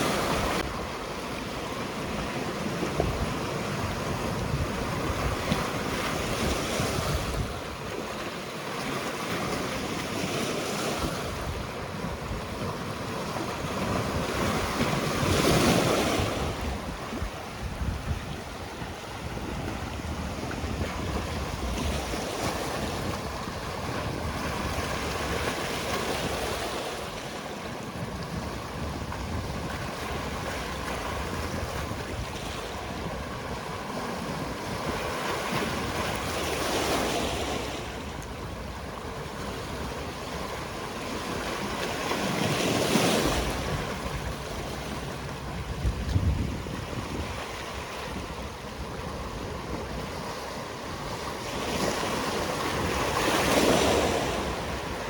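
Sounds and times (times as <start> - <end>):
waves breaking on rocky shore: 0.0 - 55.0
wind noise on microphone: 0.0 - 55.0.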